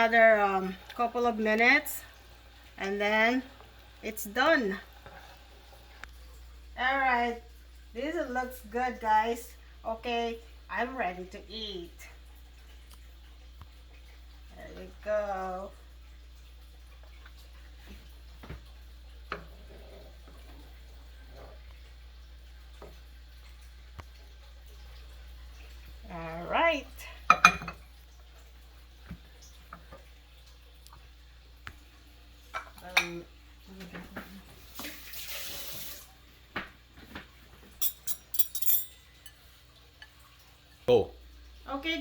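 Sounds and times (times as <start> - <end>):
porridge bubbling in a pot: 0.0 - 37.8.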